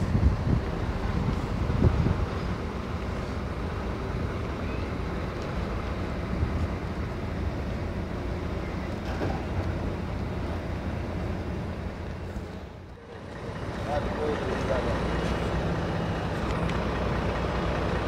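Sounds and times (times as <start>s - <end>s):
truck engine rumbling: 0.0s - 18.0s
tyres rolling on road: 0.0s - 18.0s.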